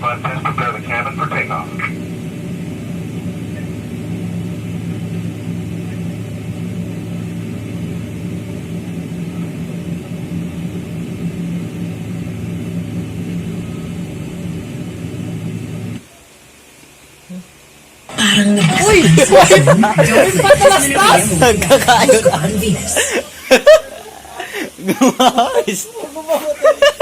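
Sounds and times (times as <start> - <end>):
airliner cabin engine drone: 0.0 - 27.0.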